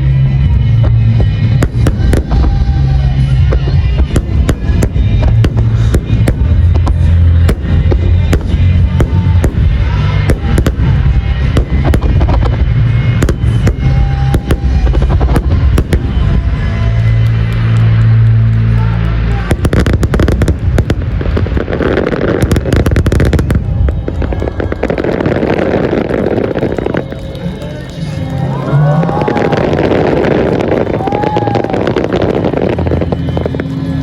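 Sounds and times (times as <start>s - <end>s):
fireworks exploding: 0.0s - 34.0s
low rumble: 0.0s - 34.0s
music playing: 0.0s - 34.0s.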